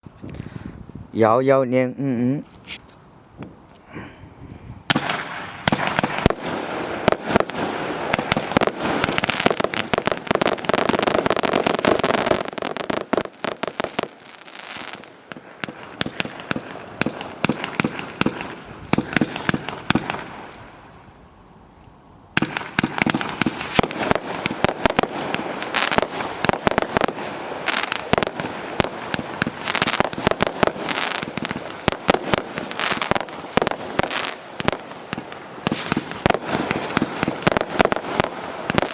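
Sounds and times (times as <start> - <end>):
fireworks cake firing rapid shots: 4.9 - 20.3, 22.4 - 38.9.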